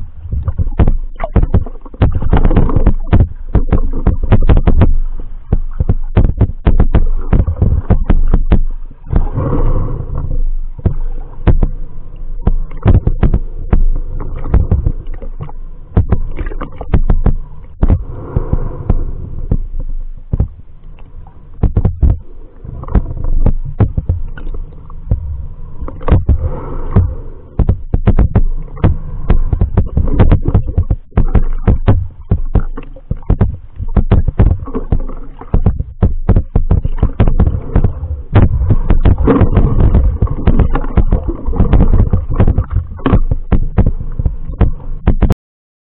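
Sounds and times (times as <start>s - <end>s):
sharp underwater clicks and knocks: 0.0s - 45.4s
underwater water rumble: 0.0s - 45.4s.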